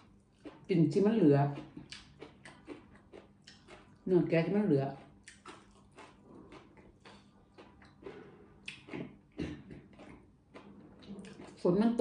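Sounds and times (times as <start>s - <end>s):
soft chewing: 0.0s - 12.0s.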